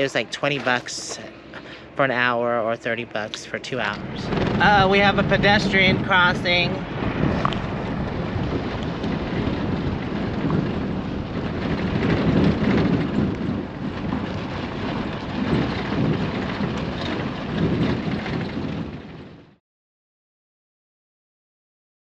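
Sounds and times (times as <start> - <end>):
road noise: 0.0 - 19.6
vehicle driving rumble: 0.0 - 19.6
wind buffeting microphone: 0.0 - 19.6.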